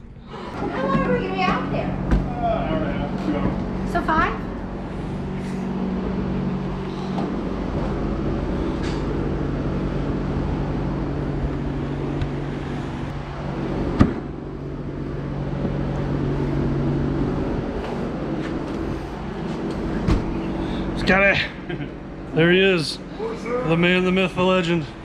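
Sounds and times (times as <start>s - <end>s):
road noise: 0.0s - 25.0s
vehicle engine running: 0.0s - 25.0s.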